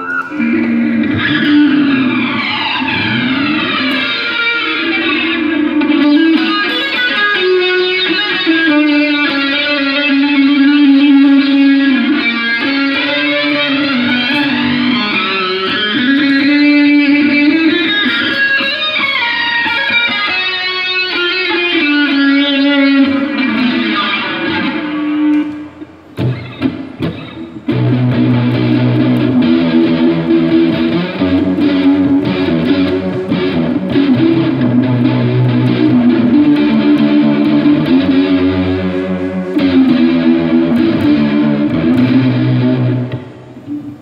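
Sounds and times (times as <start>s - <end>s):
electric guitar with sweeping effect: 0.0s - 44.0s.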